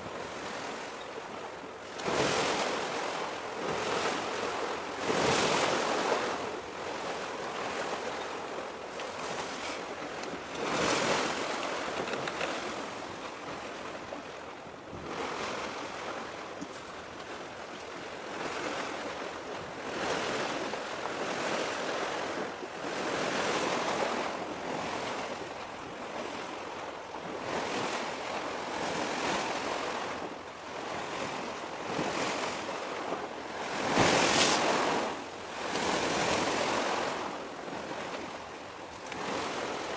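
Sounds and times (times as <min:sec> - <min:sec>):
sea waves washing in: 0:00.0 - 0:39.9
wind on microphone: 0:00.0 - 0:39.9.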